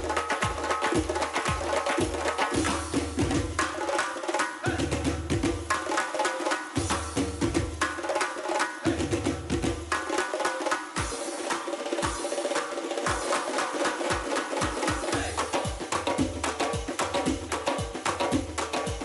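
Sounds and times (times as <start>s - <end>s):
frame drums playing fast rhythm: 0.0s - 19.0s.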